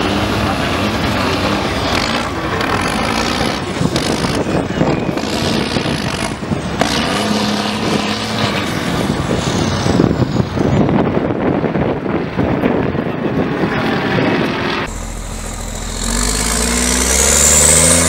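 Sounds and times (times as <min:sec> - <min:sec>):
truck diesel engine under load: 0:00.0 - 0:11.6, 0:13.6 - 0:18.0.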